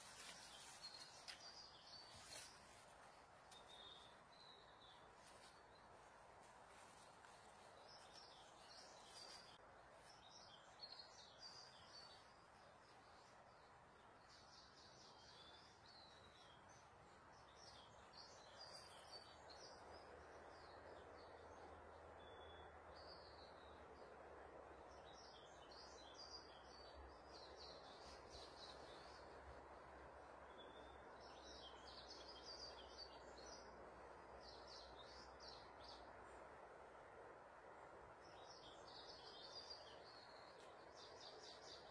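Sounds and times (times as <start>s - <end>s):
faint birds chirping: 0.0s - 41.9s
steady background hiss: 0.0s - 41.9s.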